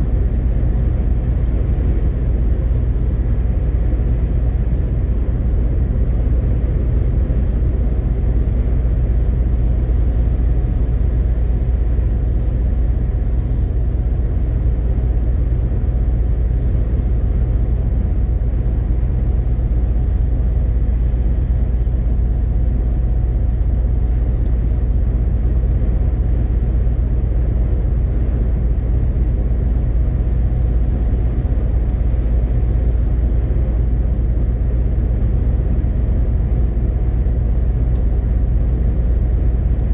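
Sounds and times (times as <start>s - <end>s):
road noise: 0.0s - 39.8s
truck diesel engine drone: 0.0s - 39.9s.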